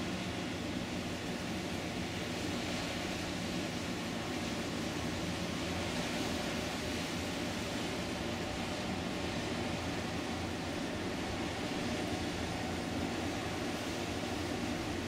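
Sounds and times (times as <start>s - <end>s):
wind and water hiss: 0.0s - 15.0s.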